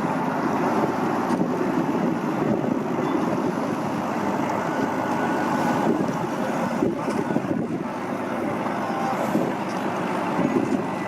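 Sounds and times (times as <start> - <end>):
boat engine running: 0.0 - 11.0
wind on microphone: 0.0 - 11.0.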